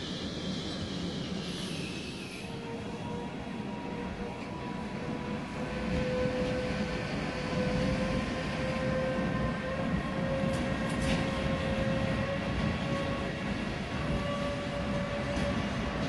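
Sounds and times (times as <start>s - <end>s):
electric locomotive whine: 0.0s - 16.0s
train wheels rumbling: 0.0s - 16.0s.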